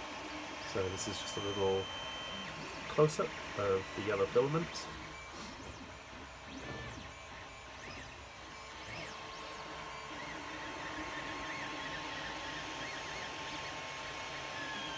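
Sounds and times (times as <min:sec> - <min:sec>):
stepper motors whining: 0:00.0 - 0:14.9.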